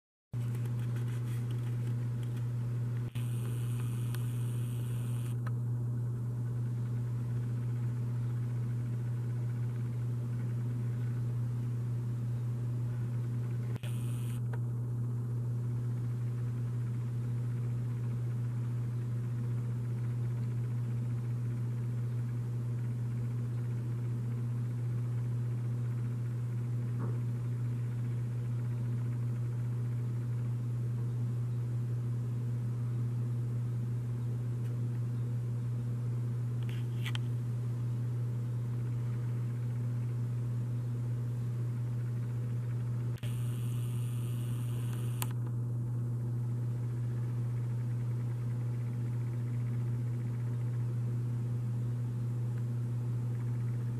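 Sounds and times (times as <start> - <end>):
steady low hum: 0.4 - 53.9.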